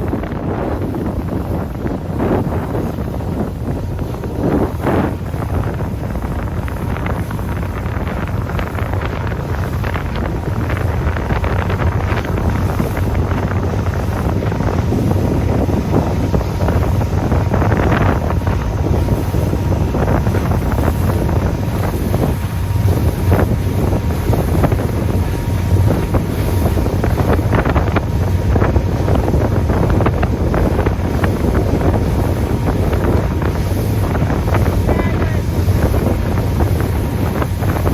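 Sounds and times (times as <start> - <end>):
motorboat engine: 0.0 - 37.9
water noise: 0.0 - 37.9
wind buffeting microphone: 0.0 - 37.9.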